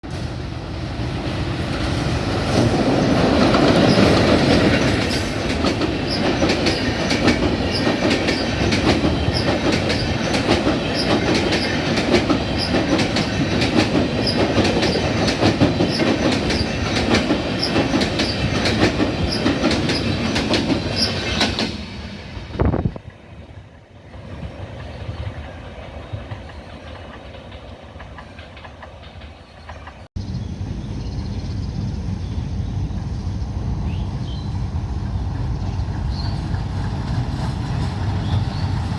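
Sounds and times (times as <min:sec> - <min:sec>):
train wheels clattering over rails: 0:00.3 - 0:23.1, 0:24.3 - 0:30.1, 0:35.1 - 0:38.9.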